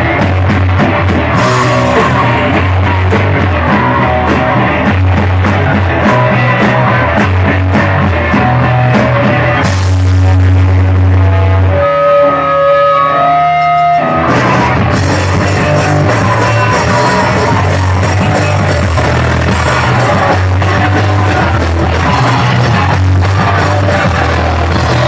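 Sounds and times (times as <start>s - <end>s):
heavy bass line: 0.0s - 25.0s
punk rock band playing: 0.0s - 25.0s.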